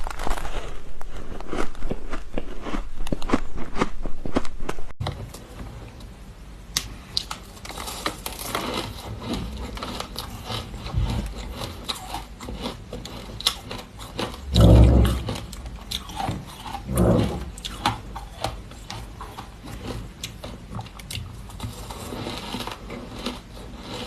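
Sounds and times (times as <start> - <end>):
ice being crunched and chewed: 0.0 - 4.6, 7.1 - 24.0.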